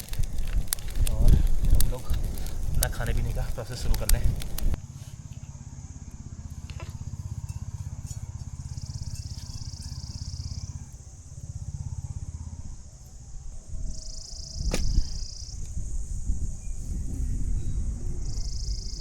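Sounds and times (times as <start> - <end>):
high insect chirr: 0.0 - 19.0
lower insect buzz: 0.0 - 19.0
low rapidly pulsing hum: 0.1 - 19.0.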